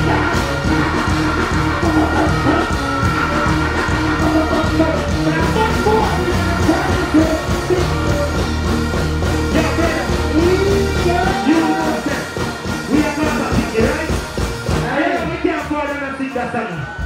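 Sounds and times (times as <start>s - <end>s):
bass-heavy dancehall beat: 0.0s - 17.0s.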